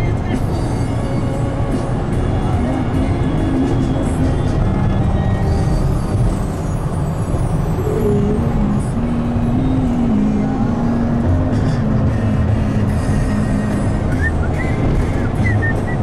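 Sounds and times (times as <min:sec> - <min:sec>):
car cabin road noise: 0:00.0 - 0:16.0
music from car stereo: 0:00.0 - 0:16.0.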